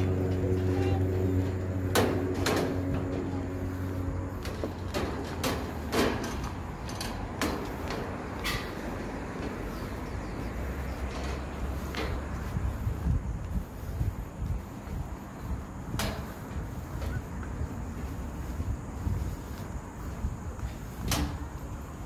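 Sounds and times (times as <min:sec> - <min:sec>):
footsteps on metal walkway: 0:00.0 - 0:22.0
low hum: 0:00.0 - 0:22.0.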